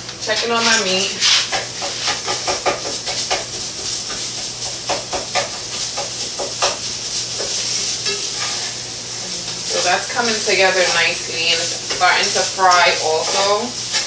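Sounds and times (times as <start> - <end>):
meat sizzling in a pan: 0.4 - 14.0.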